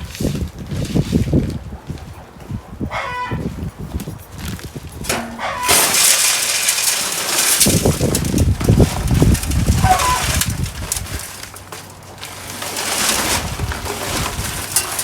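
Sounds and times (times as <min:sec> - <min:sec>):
scraping on fresh concrete: 0:00.0 - 0:01.7, 0:04.4 - 0:15.0.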